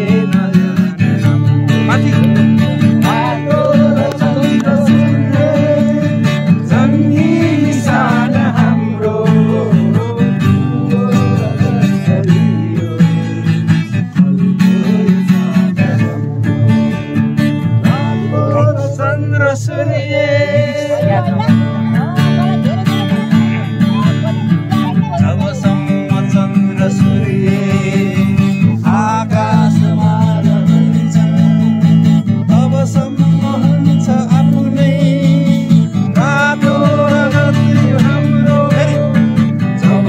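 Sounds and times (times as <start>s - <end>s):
person singing: 0.0s - 17.1s, 17.7s - 31.6s, 32.3s - 40.0s
acoustic guitar strumming: 0.0s - 40.0s.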